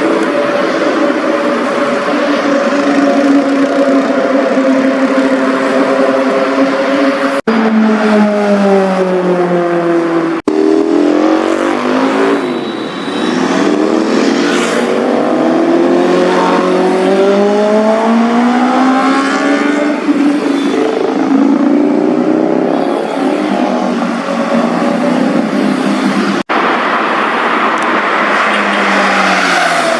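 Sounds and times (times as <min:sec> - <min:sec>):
motorcycle engines accelerating: 0:00.0 - 0:26.5.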